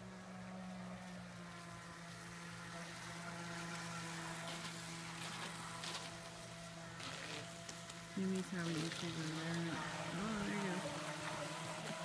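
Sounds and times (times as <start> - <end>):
model speedboat motors droning: 0.0 - 12.0.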